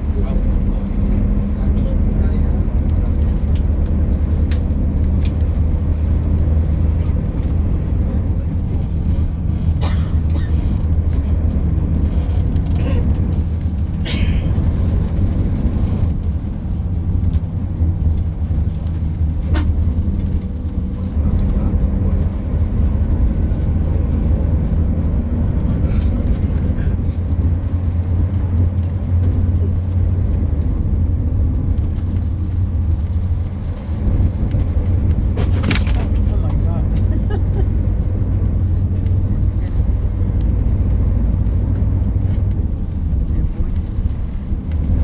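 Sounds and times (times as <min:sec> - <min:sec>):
vehicle rumbling from inside: 0:00.0 - 0:45.0.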